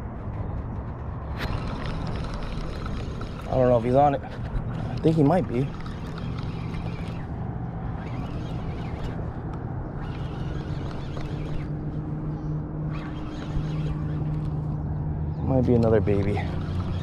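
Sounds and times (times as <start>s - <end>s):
higher engine tone: 0.0s - 17.0s
low engine hum: 0.0s - 17.0s
outdoor background noise: 0.0s - 17.0s.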